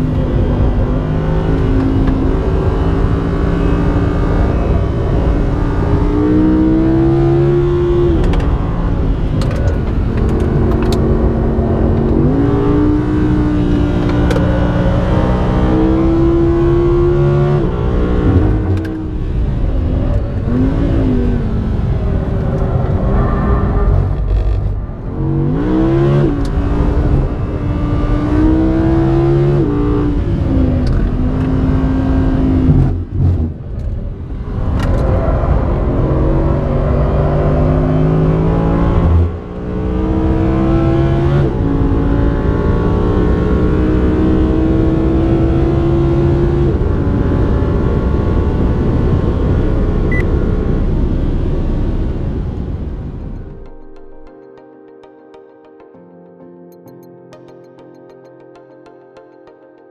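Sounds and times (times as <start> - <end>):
racing car engine revving: 0.0 - 52.9.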